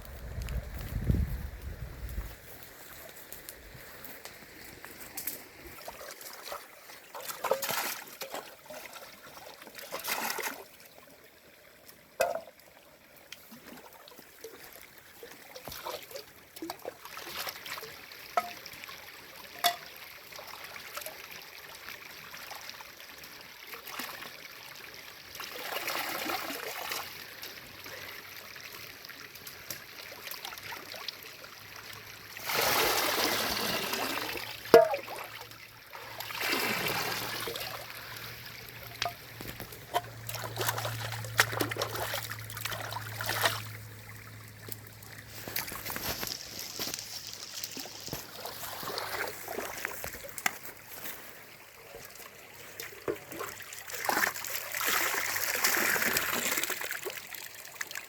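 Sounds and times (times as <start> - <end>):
low running water: 0.0 - 58.0
water trickling and splashing: 0.0 - 58.0.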